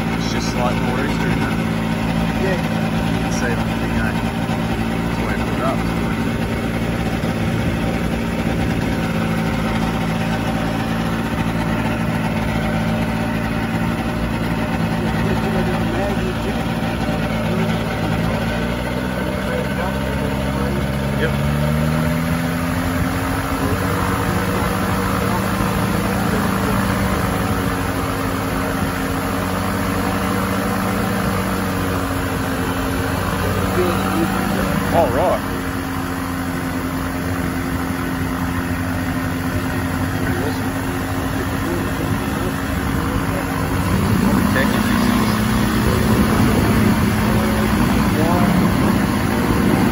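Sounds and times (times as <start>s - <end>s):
light aircraft engine idling: 0.0s - 49.9s.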